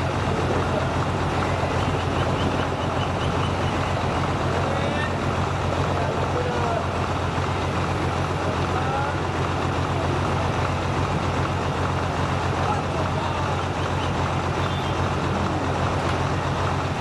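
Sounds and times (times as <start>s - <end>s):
helicopter rotor and turbine whir: 0.0s - 17.0s.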